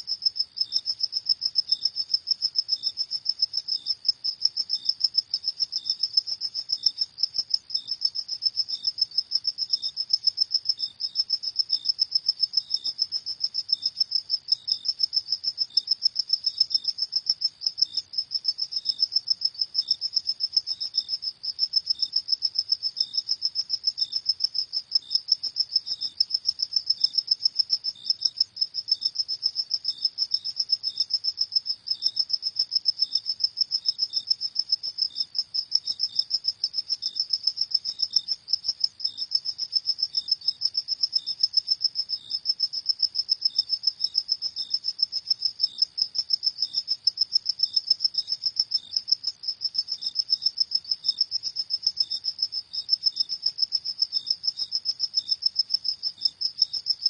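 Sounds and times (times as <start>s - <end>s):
fainter cricket slower chirping: 0.0s - 57.0s.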